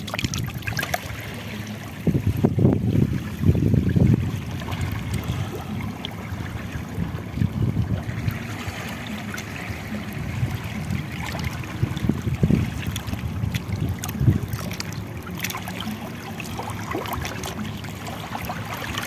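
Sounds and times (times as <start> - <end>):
shallow water washing on shore: 0.0 - 19.0
wind buffeting microphone: 1.9 - 19.0.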